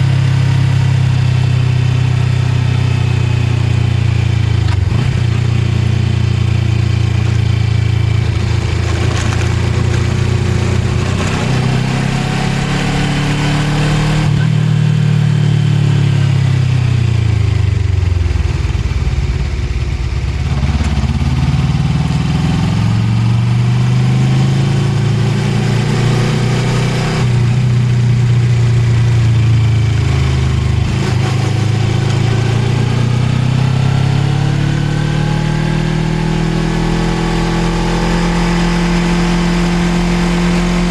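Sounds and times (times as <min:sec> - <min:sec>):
road noise: 0:00.0 - 0:34.6
motorcycle engine: 0:00.0 - 0:40.9.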